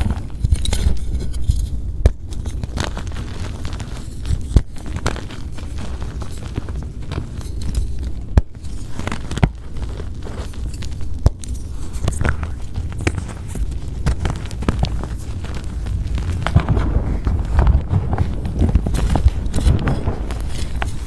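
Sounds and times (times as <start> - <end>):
chalk crunching and cracking: 0.0 - 21.0.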